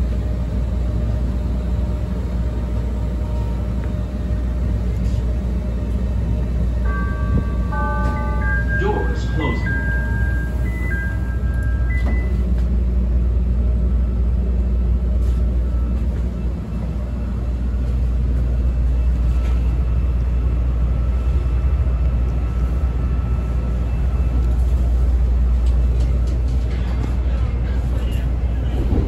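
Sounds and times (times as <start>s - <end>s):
railcar wheels rumbling: 0.0s - 29.0s.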